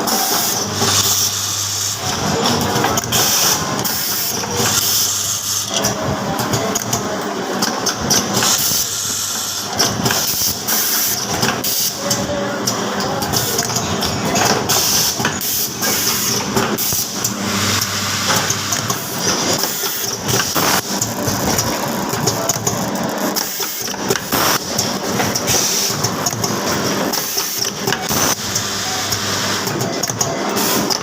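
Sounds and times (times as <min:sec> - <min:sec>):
machine mechanical hum: 0:00.0 - 0:31.0.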